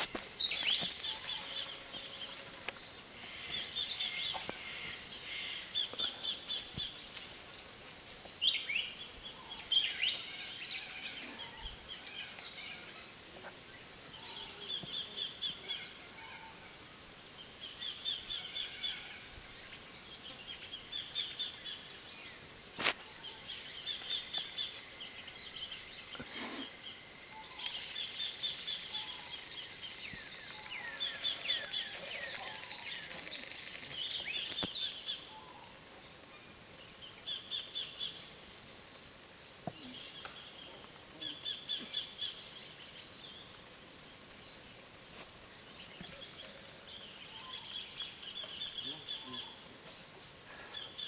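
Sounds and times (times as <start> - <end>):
birds trilling and chirping: 0.0 - 51.0.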